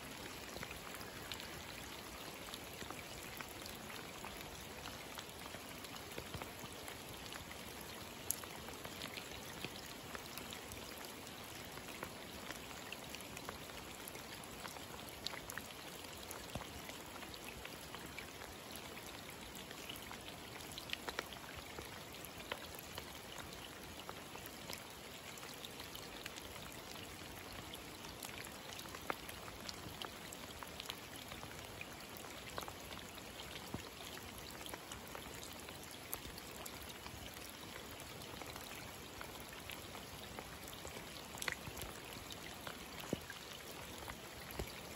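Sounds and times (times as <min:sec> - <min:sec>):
rain falling on a puddle: 0:00.0 - 0:44.9.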